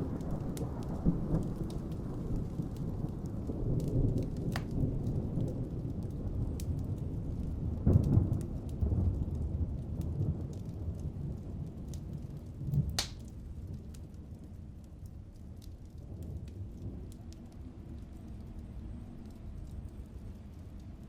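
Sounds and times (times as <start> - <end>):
rain falling: 0.0 - 21.0
raindrop ticks: 0.1 - 21.0.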